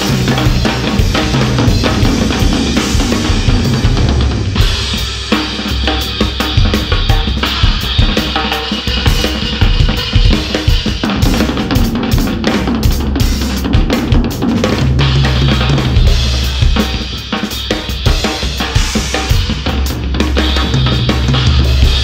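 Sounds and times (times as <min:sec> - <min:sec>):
drum kit groove: 0:00.0 - 0:22.0.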